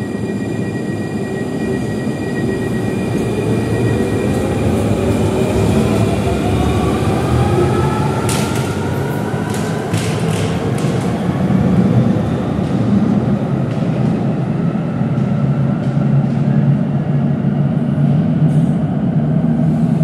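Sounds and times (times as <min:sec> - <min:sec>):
tram rolling rumble: 0:00.0 - 0:20.0.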